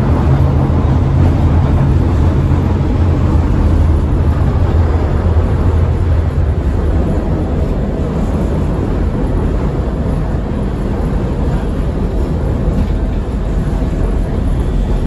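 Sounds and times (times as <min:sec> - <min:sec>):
train car rolling noise: 0:00.0 - 0:15.0.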